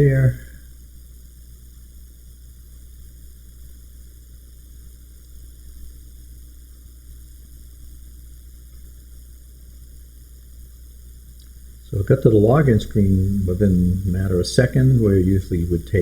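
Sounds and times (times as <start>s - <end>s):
faint hiss: 0.0s - 16.0s
low electrical hum: 0.0s - 16.0s.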